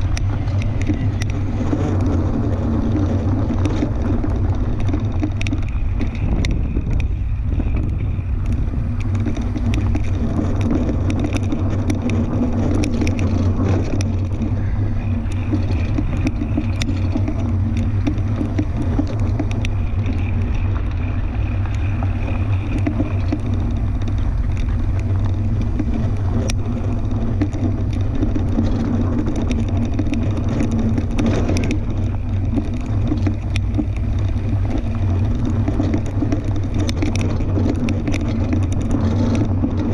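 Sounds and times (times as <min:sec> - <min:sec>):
bike clicks and rattles: 0:00.0 - 0:39.9
bike tyres rumbling on dirt: 0:00.0 - 0:39.9
wind on microphone: 0:00.0 - 0:39.9.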